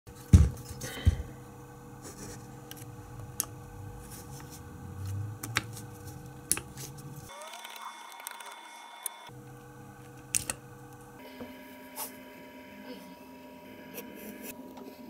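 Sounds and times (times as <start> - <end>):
steady low hum: 0.1 - 7.3, 8.6 - 15.0.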